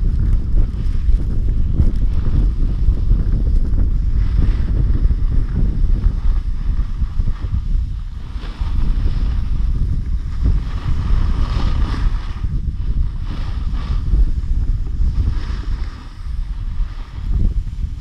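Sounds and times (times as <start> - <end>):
snowboard edge scraping snow: 0.0 - 18.0
wind buffeting microphone: 0.0 - 18.0.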